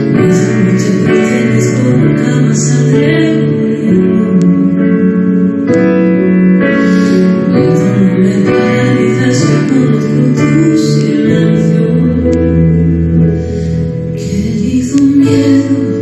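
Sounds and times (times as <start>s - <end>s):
woman singing into a microphone: 0.0s - 5.9s, 6.7s - 16.0s
piano: 0.0s - 16.0s.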